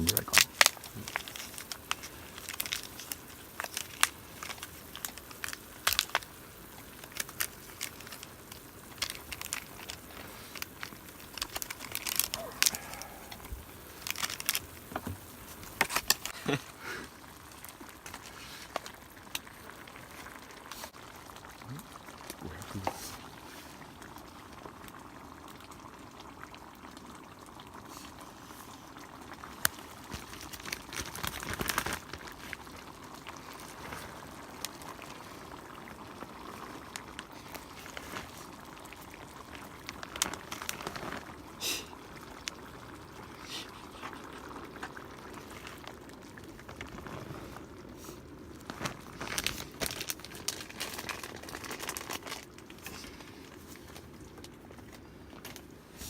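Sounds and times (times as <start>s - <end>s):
food simmering in a pot: 0.0s - 56.0s.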